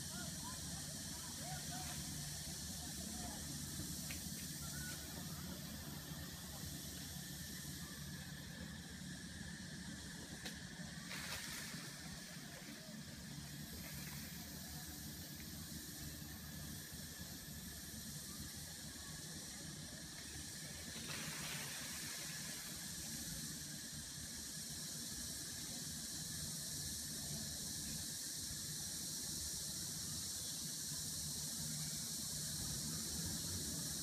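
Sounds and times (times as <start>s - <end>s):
forest ambience hiss: 0.0s - 34.0s.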